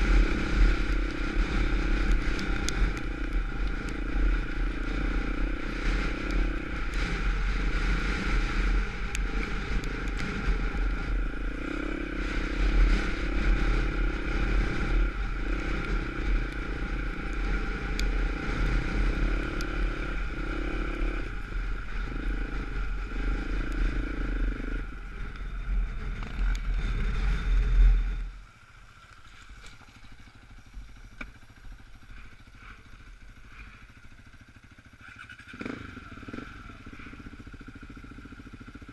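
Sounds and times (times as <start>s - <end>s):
dirt bike engine revving: 0.0s - 28.3s, 32.1s - 38.9s.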